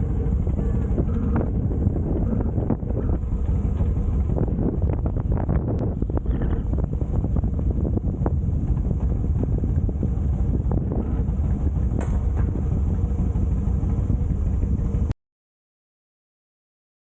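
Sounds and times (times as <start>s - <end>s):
motorcycle engine rumble: 0.0s - 15.1s
wind buffeting microphone: 0.0s - 15.1s.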